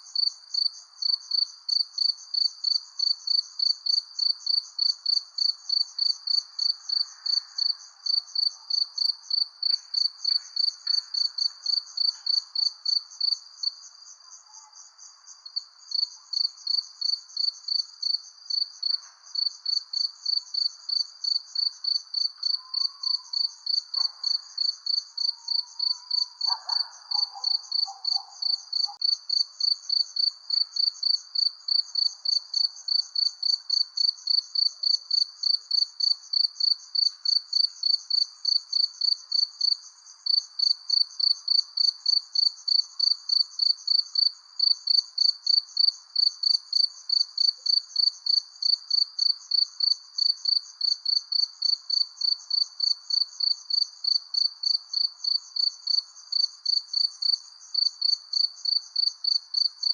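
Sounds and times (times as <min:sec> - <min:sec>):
cricket chirping: 0:00.0 - 0:59.9
faint night background: 0:00.0 - 0:59.9.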